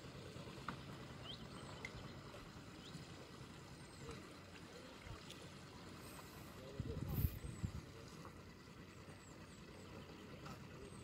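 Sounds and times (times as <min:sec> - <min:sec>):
water: 0:00.0 - 0:11.0
wind: 0:00.0 - 0:11.0.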